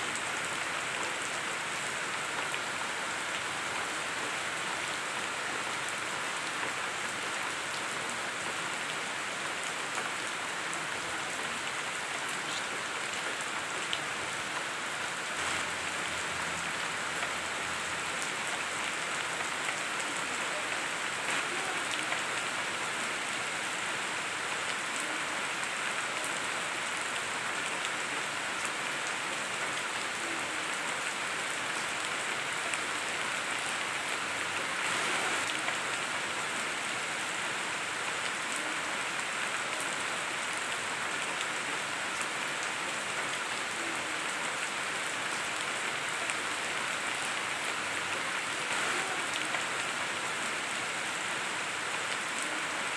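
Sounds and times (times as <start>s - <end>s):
rain falling on trees: 0.0s - 52.9s.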